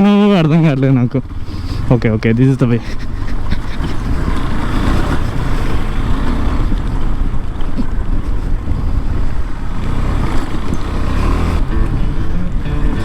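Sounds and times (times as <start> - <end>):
motorcycle engine running: 1.0 - 13.0
wind buffeting microphone: 1.2 - 13.0.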